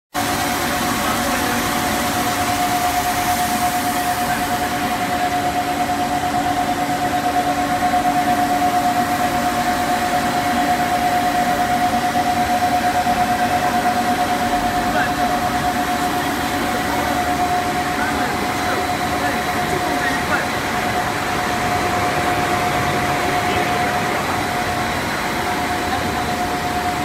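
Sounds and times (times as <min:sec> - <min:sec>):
machine hum with high whine: 0:00.2 - 0:27.0.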